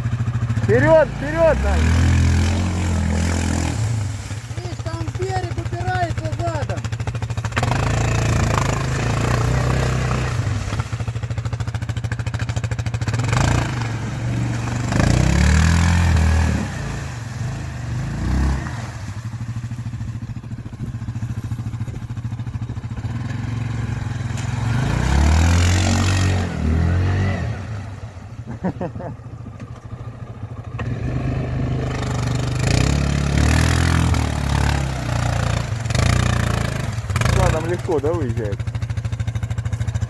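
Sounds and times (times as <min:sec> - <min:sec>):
quad bike engine revving: 0:00.0 - 0:40.0.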